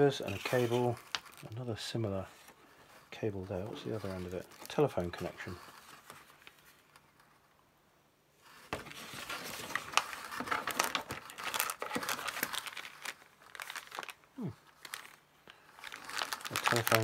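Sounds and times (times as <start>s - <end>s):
packaging crinkling and rustling: 0.0s - 7.5s, 8.4s - 17.0s.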